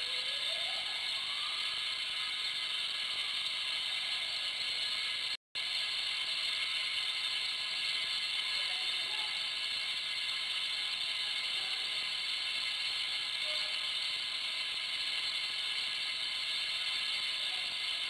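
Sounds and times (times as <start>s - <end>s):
screws rattling in vibratory feeder: 0.0s - 18.0s.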